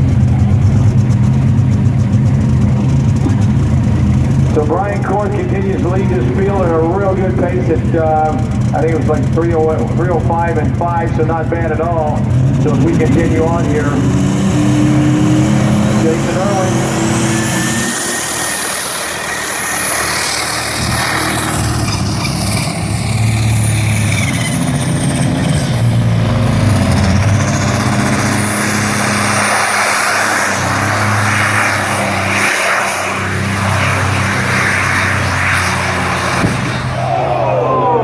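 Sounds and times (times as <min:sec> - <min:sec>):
diesel truck engine under load: 0:00.0 - 0:38.0.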